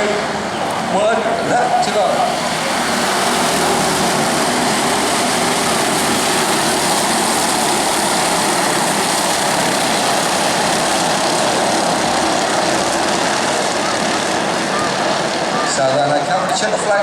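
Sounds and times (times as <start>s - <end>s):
small race car engines buzzing: 0.0s - 17.0s.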